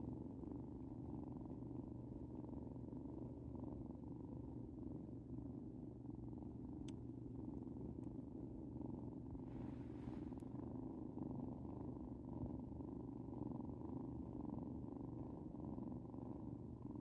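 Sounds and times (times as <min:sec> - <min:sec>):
kitten purring: 0:00.0 - 0:17.0.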